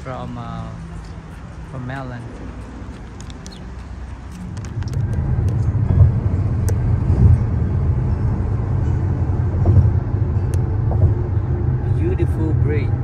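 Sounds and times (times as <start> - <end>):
car road rumble inside cabin: 0.6 - 13.0.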